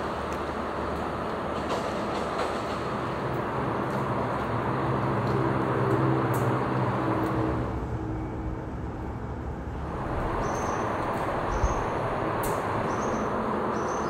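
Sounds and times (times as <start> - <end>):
outdoor background noise: 0.0 - 14.0
passing vehicle rumble: 0.0 - 14.0.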